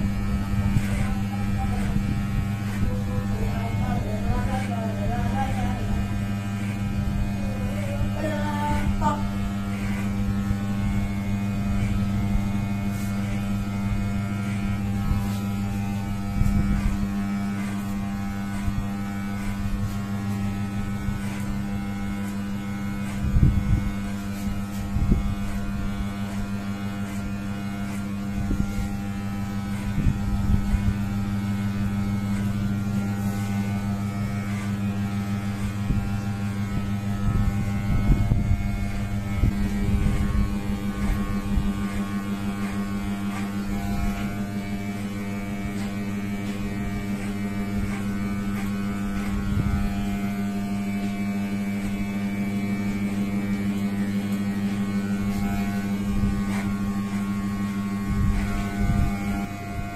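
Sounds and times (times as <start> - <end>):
hair clipper buzzing: 0.0 - 59.9.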